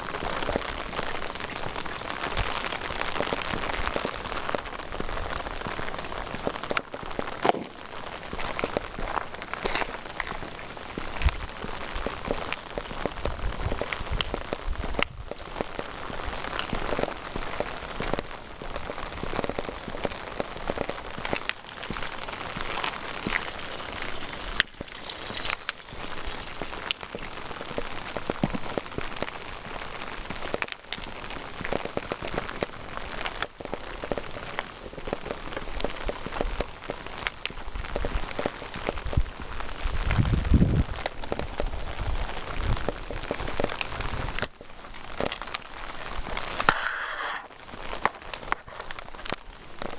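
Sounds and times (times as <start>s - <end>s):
raindrops ticking on surfaces: 0.0s - 49.9s
steady rain falling: 0.0s - 49.9s.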